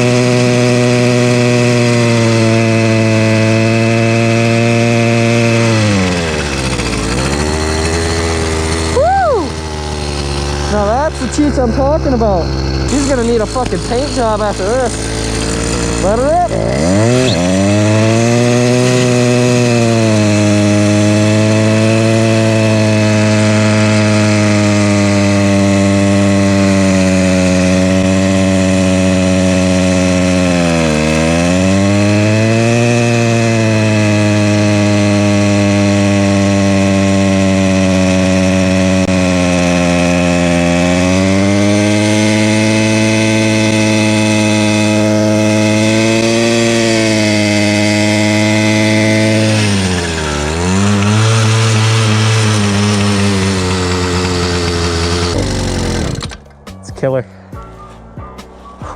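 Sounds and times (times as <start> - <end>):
small engine buzzing at high revs: 0.0 - 56.6.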